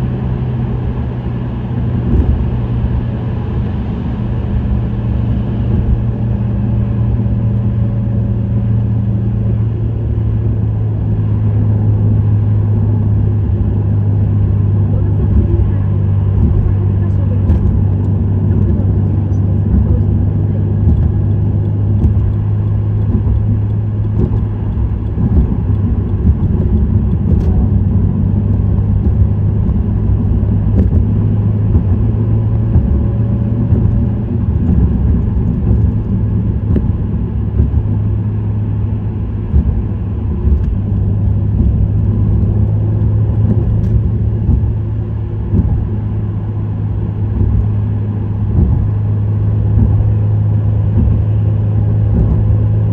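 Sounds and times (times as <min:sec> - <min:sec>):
car engine and exhaust drone: 0:00.0 - 0:52.9
tyre and road noise: 0:00.0 - 0:52.9.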